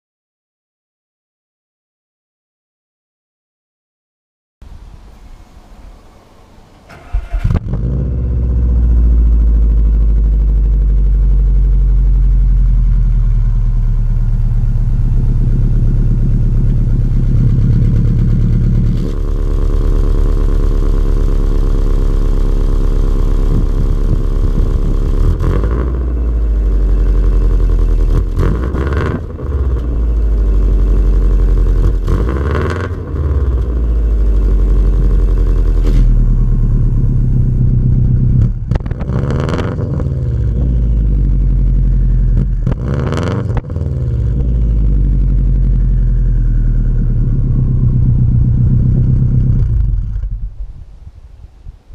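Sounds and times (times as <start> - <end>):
car exhaust idling burble: 5.1 - 51.1
engine revving blips: 5.3 - 50.4.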